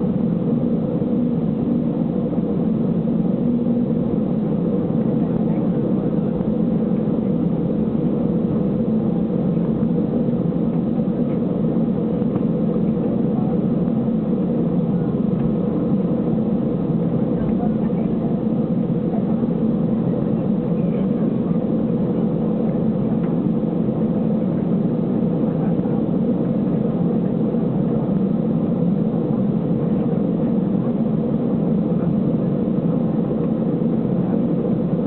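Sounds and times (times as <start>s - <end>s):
airplane cabin hum and rush: 0.0s - 35.0s.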